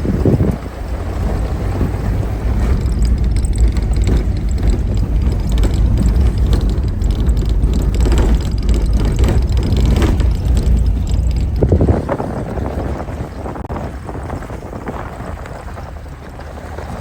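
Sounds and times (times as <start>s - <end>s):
vehicle engine and road rumble: 0.0s - 17.0s
vehicle rattling over bumps: 0.0s - 17.0s.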